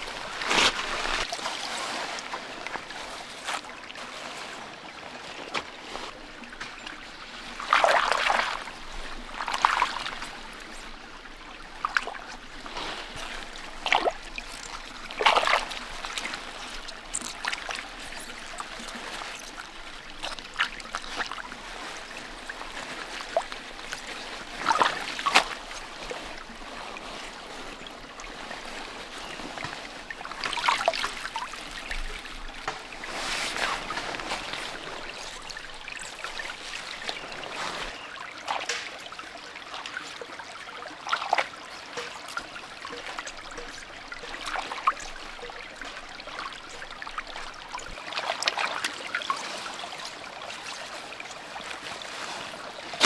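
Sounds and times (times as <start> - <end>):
stream water trickling: 0.0 - 53.0.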